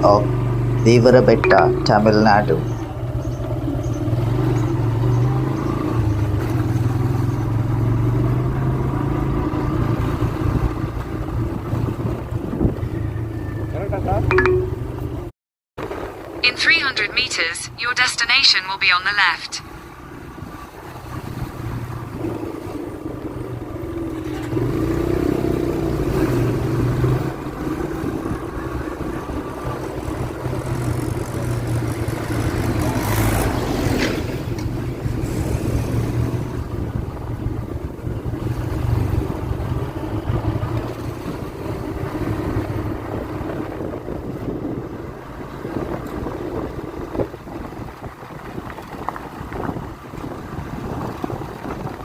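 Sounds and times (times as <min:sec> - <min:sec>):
road noise: 0:00.0 - 0:52.0.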